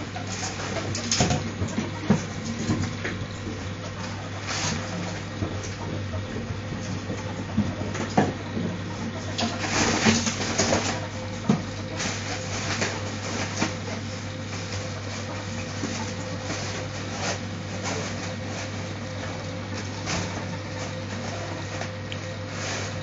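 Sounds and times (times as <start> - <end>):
ferrets scampering and rustling: 0.0 - 23.0
steady low hum: 0.0 - 23.0.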